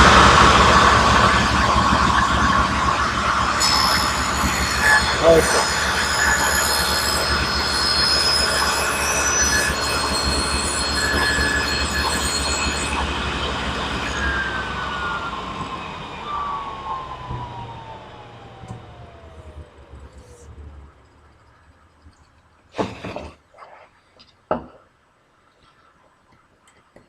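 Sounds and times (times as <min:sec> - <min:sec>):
saw blade coasting down: 0:00.0 - 0:23.4
table saw whining: 0:00.0 - 0:23.4.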